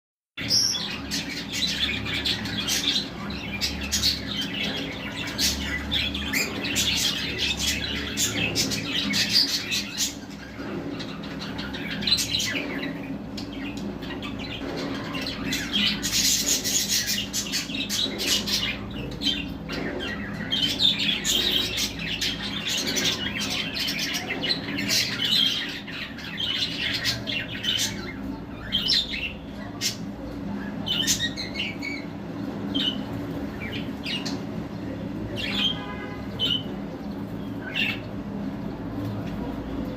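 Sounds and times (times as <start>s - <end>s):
budgerigars chirping and squawking: 0.4s - 39.9s.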